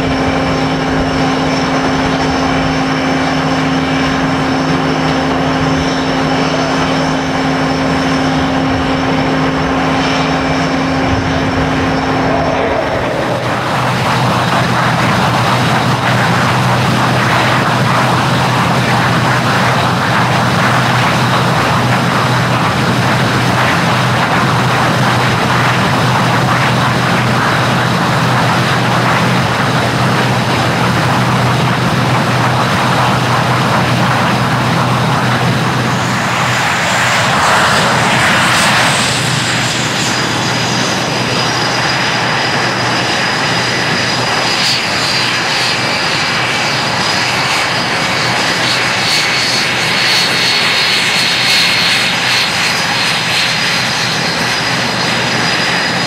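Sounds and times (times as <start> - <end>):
jet engine idling roar: 0.0 - 56.0.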